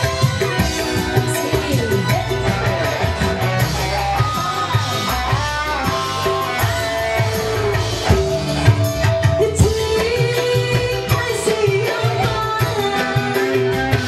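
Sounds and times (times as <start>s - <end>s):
bass: 0.0s - 14.0s
hand drums: 0.0s - 14.0s
sliding guitar melody: 0.0s - 14.0s.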